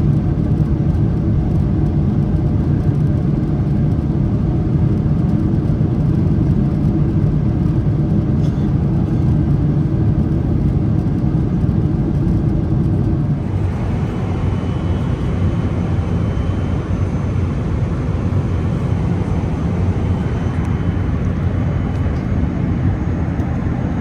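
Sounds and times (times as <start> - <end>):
jet engines and airflow in cabin: 0.0 - 24.0.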